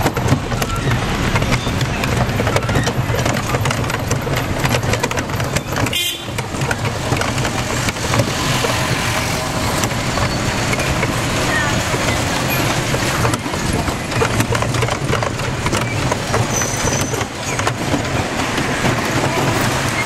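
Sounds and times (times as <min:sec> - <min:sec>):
rickshaw rattling and clattering: 0:00.0 - 0:20.0
rumbling road noise: 0:00.0 - 0:20.0.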